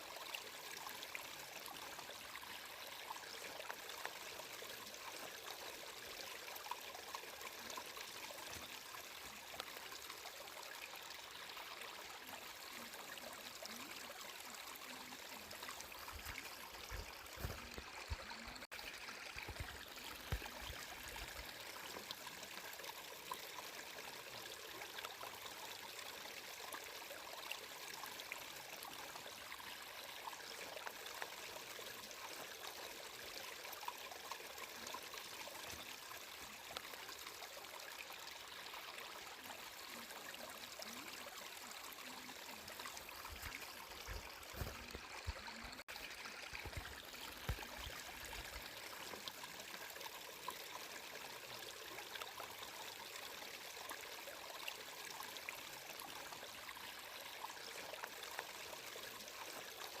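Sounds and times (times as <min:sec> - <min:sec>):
water trickling and splashing: 0:00.0 - 1:00.0.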